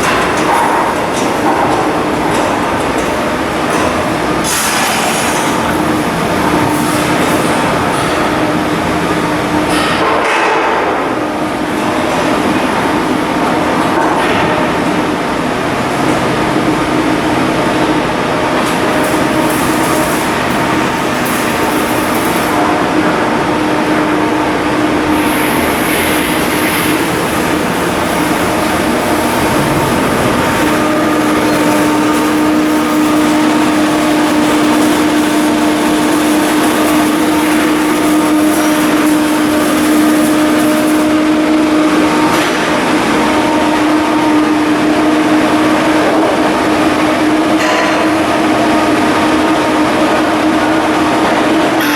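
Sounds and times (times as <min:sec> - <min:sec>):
heavy machinery humming: 0:00.0 - 0:51.9.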